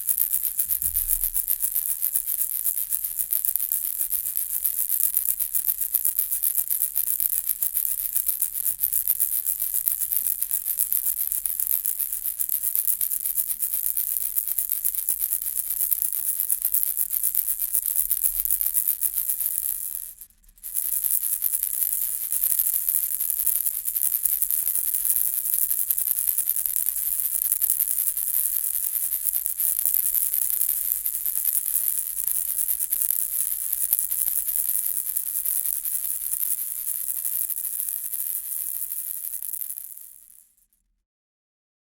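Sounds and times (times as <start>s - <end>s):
plastic baby rattle shaking: 0.0s - 40.6s.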